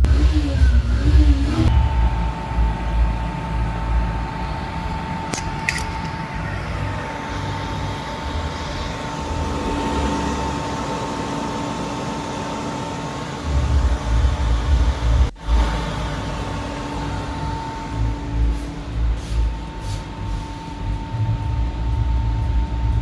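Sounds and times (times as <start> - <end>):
air conditioner humming: 0.0 - 23.0
lower tone: 0.0 - 23.0.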